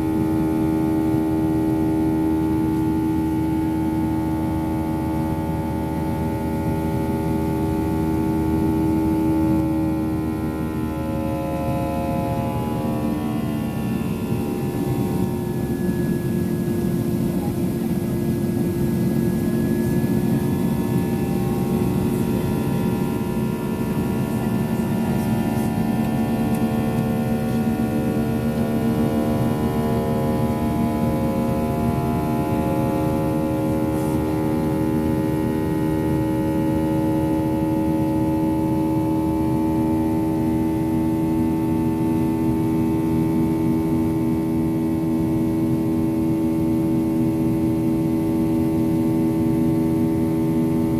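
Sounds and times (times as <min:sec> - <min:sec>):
jet engine cabin drone: 0:00.0 - 0:50.9.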